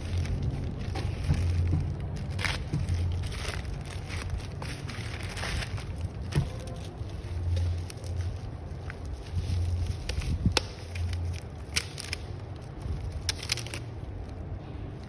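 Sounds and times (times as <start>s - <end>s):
low rumble: 0.0s - 15.0s
packaging clicks and crackles: 0.0s - 15.0s.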